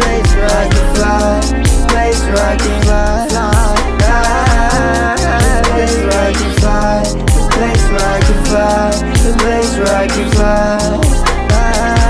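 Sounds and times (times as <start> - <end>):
hi-hat and drum hits: 0.0 - 12.0
pitch-bending melody: 0.0 - 12.0
sliding deep bass notes: 0.0 - 12.0.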